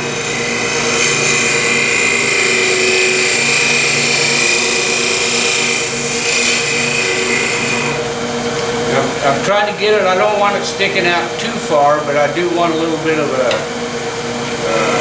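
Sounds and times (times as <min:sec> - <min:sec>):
wood lathe turning tool cutting: 0:00.0 - 0:15.0.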